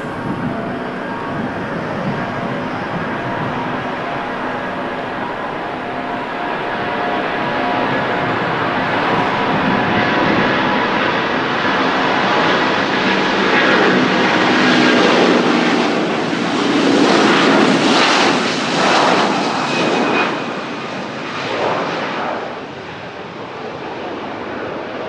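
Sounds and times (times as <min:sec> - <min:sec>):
jet passing by and climbing: 0:00.0 - 0:25.0.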